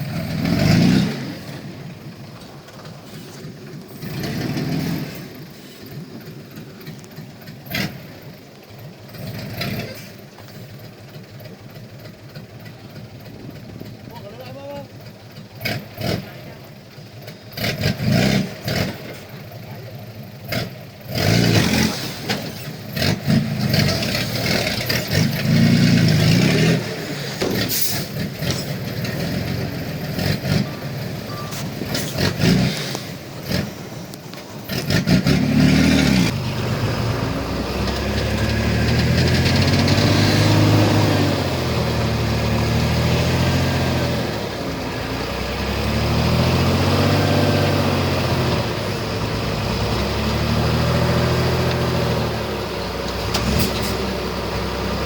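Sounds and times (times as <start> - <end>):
heavy diesel engine working: 0.0 - 55.0.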